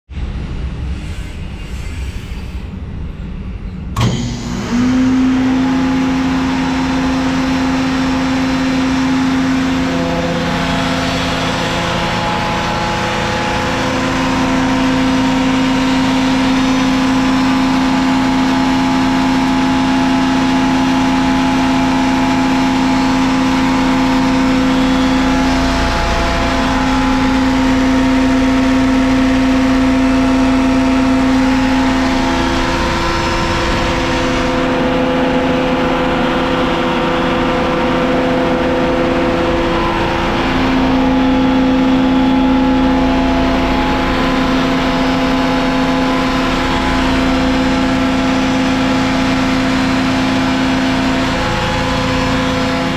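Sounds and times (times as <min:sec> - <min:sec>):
air compressor running: 0:04.0 - 0:52.9.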